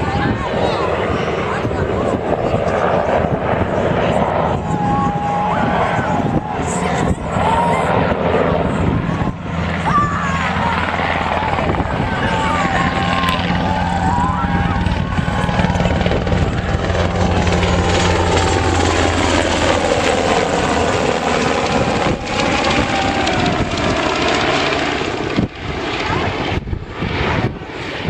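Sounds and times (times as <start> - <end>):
helicopter flying overhead: 0.0 - 28.0.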